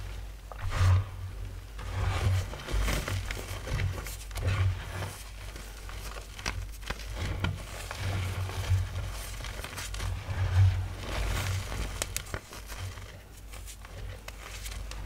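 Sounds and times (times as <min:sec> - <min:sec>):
chalk crunching and crackling: 0:00.0 - 0:15.0.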